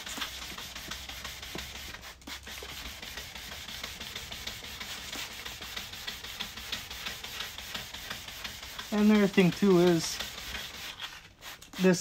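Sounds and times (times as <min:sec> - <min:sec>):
sandpaper scratching on plastic: 0:00.0 - 0:12.0.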